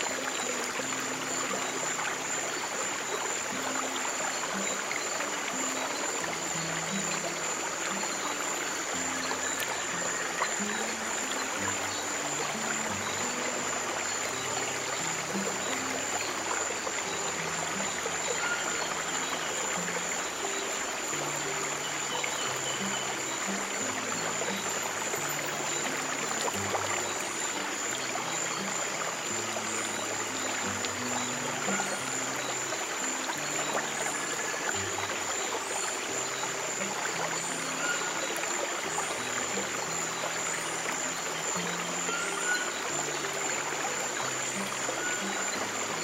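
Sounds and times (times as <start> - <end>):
stream of water running: 0.0 - 46.0.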